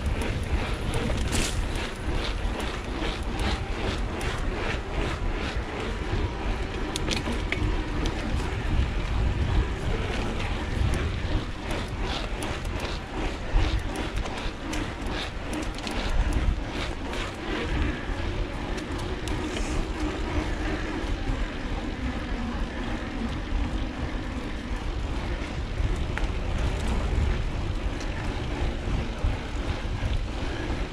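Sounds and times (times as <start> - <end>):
bike clicks and rattles: 0.0 - 30.9
bike tyre rumble on concrete: 0.0 - 30.9
wind on microphone: 0.0 - 30.9.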